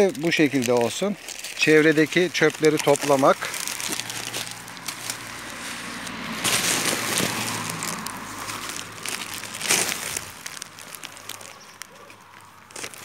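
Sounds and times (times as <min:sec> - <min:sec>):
plastic bag rustling and crinkling: 0:00.0 - 0:13.0.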